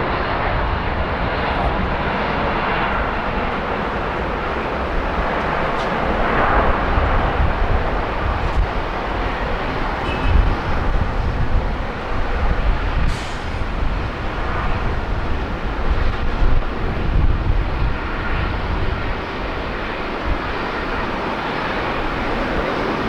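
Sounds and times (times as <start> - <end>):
distant jet engine roar: 0.0 - 23.0
wind buffeting microphone: 0.0 - 23.0.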